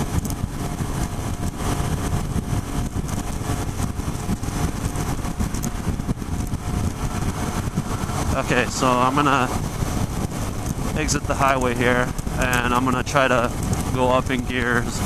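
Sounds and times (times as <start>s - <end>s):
heavy wind noise: 0.0s - 15.0s
motorcycle engine cruising: 0.0s - 15.0s.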